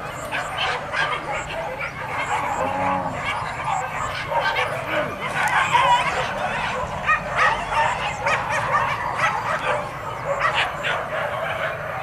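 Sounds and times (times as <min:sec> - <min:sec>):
dogs yelping and barking: 0:00.0 - 0:12.0.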